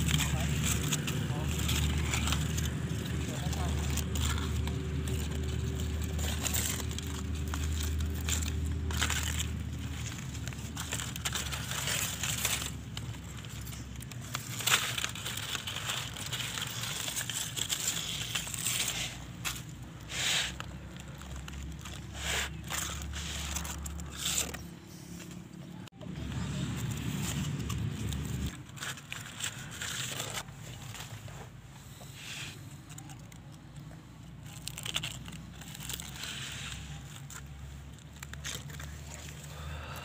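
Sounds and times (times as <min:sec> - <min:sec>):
aluminium foil crinkling: 0:00.0 - 0:40.0.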